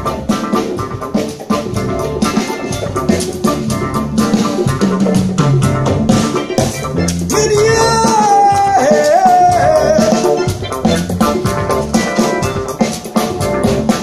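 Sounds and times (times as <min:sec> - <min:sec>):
bent melody line: 0:00.0 - 0:14.0
drums and bass beat: 0:00.0 - 0:14.0.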